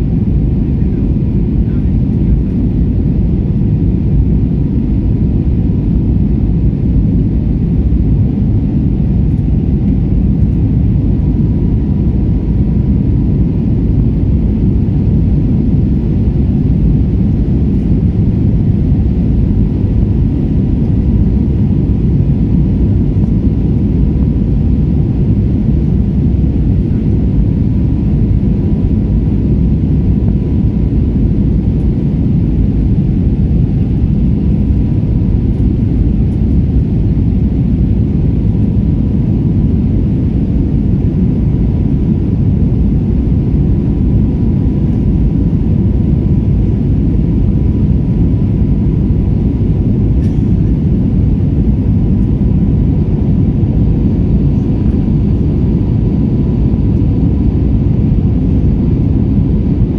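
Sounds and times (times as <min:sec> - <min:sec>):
aircraft cabin engine rumble: 0:00.0 - 0:59.9
faint steady whine: 0:00.0 - 0:59.9.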